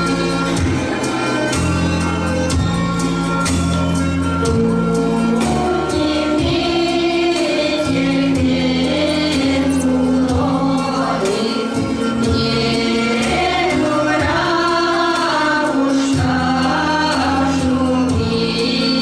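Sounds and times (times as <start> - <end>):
choir singing folk song: 0.0 - 19.0
low instrumental accompaniment: 0.0 - 19.0.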